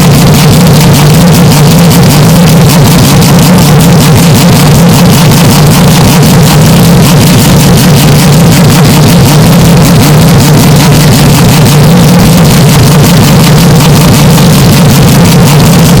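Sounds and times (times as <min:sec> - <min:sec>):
distorted race car engine: 0:00.0 - 0:16.0.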